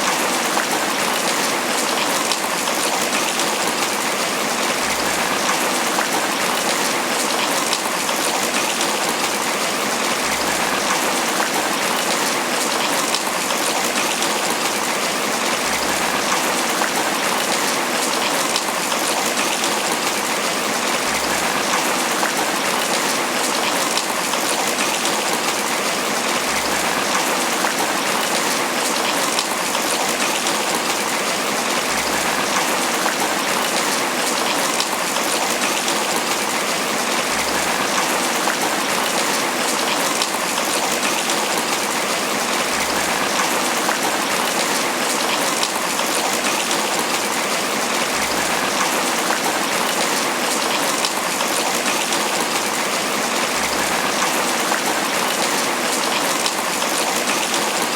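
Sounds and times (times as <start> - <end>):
rain falling on leaves: 0.0 - 57.9.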